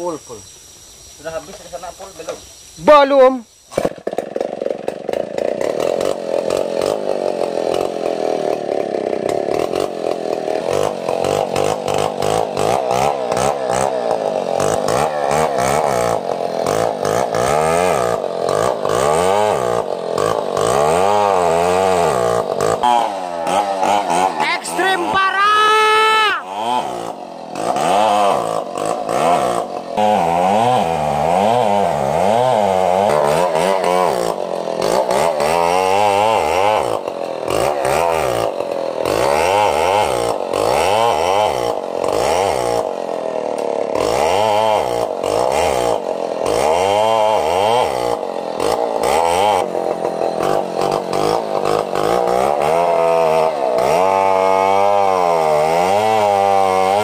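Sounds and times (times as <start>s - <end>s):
chainsaw cutting log: 1.2s - 57.0s.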